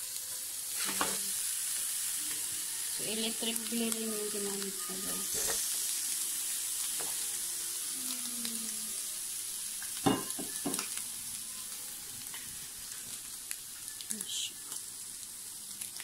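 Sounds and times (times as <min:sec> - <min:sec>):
ribs sizzling on grill: 0:00.0 - 0:16.0.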